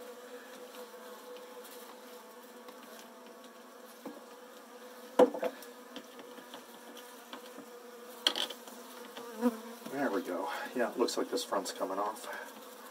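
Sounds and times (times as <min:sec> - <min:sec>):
honeybees buzzing: 0:00.0 - 0:12.9.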